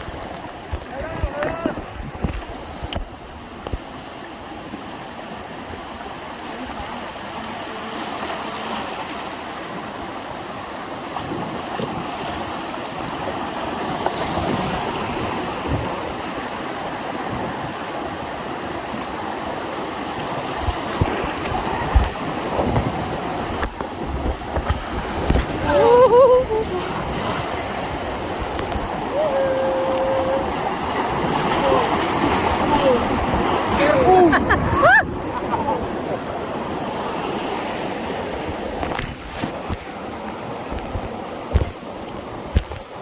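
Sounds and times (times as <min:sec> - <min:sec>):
river rapids rushing: 0:00.0 - 0:43.0
water splashes: 0:00.0 - 0:43.0.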